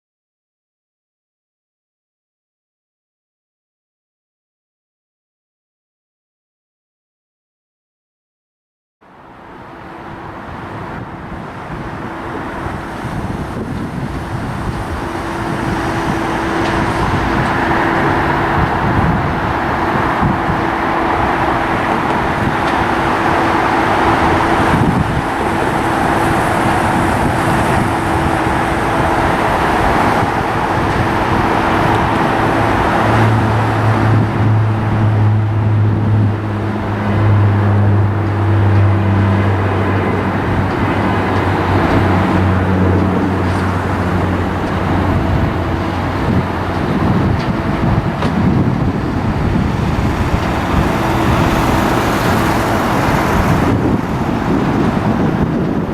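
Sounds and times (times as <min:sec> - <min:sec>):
aircraft engine noise: 0:09.0 - 0:55.9
deep low drone: 0:09.1 - 0:55.9
steady hum: 0:09.2 - 0:55.9.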